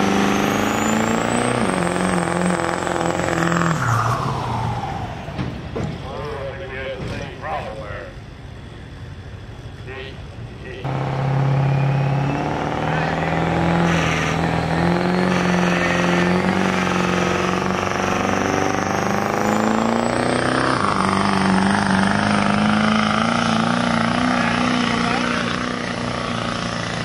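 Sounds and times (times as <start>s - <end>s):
truck engine revving under load: 0.0s - 6.0s, 10.7s - 27.0s
high whine climbing in pitch: 0.0s - 27.0s.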